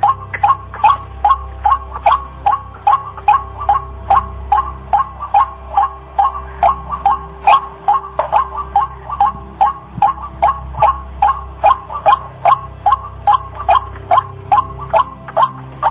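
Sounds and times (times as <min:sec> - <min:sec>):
waterhen calling sharp notes: 0:00.0 - 0:15.9.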